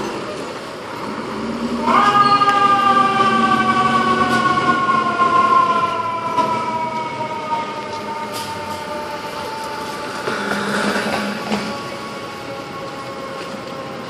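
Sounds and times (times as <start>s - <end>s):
fire engine siren: 0.4s - 14.0s.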